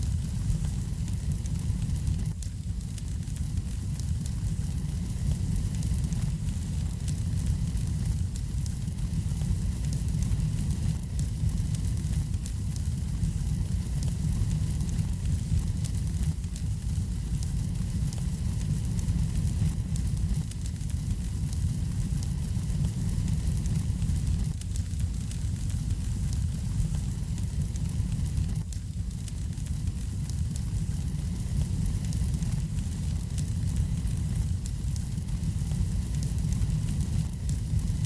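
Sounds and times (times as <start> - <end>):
fire crackling and snapping: 0.0 - 38.0
fire rumbling: 0.0 - 38.0.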